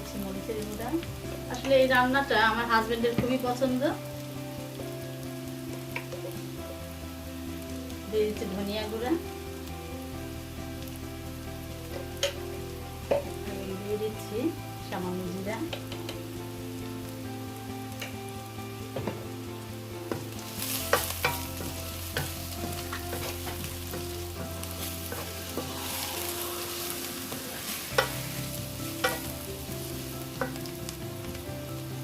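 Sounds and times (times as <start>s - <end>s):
onion sizzling in oil: 0.0s - 32.0s.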